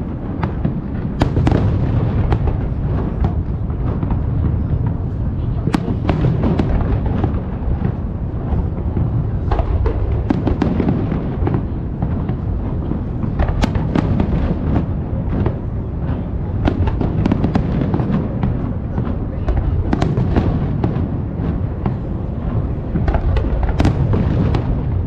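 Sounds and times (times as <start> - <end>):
fireworks booming: 0.0 - 25.0
fireworks cracking and crackling: 0.0 - 25.0.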